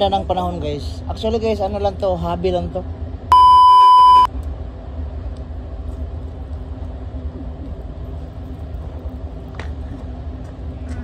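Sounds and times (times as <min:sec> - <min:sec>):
faint machine hum: 0:00.0 - 0:11.0
low outdoor rumble: 0:00.0 - 0:11.0.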